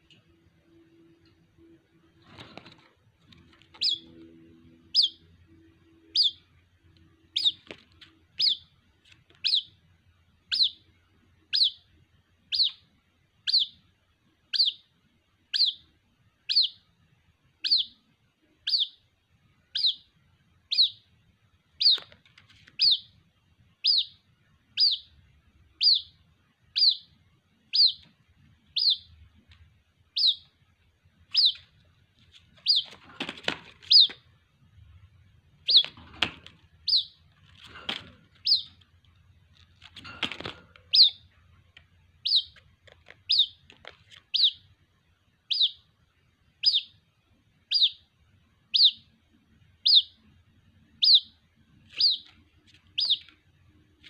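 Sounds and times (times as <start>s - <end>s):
bird chick peeping: 0.0s - 54.0s.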